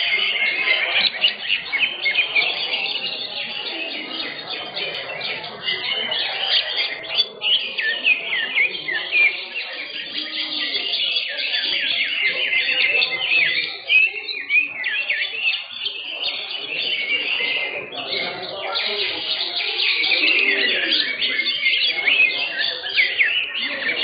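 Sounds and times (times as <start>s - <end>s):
birds chirping and whistling: 0.0s - 24.0s.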